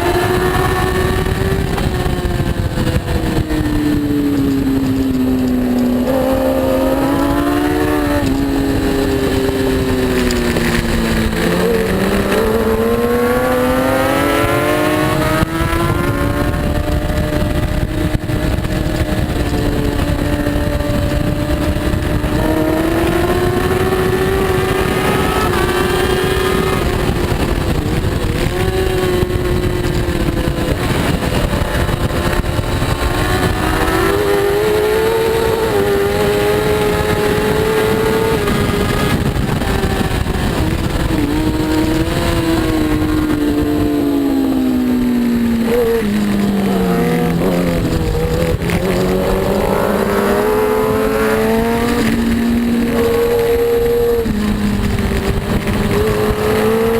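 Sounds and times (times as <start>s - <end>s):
motorbike engine revving: 0.0s - 56.9s
wind noise: 0.0s - 56.9s.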